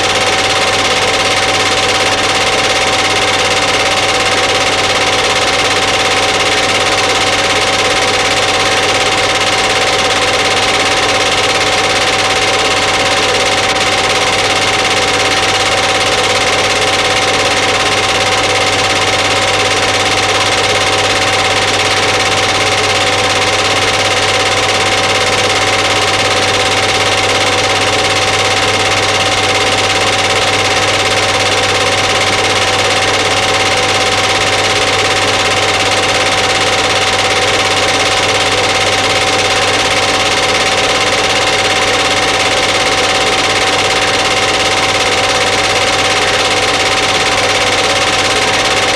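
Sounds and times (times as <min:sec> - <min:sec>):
film projector whirring: 0:00.0 - 0:48.9.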